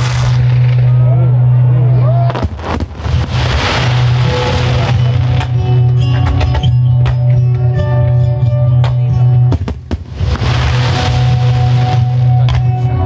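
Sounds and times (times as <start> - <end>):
loud music: 0.0 - 13.0.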